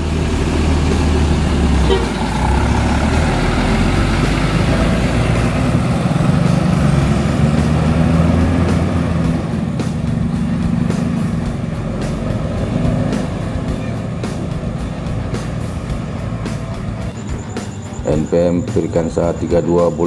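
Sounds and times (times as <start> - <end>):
bus diesel engine passing: 0.0 - 20.0.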